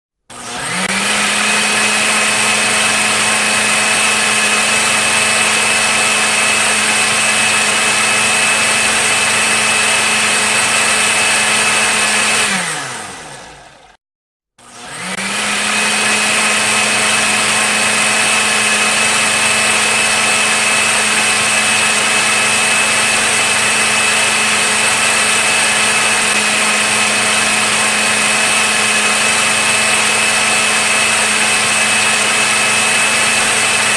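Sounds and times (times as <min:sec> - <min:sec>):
blender motor whining: 0:00.2 - 0:14.0, 0:14.6 - 0:33.9.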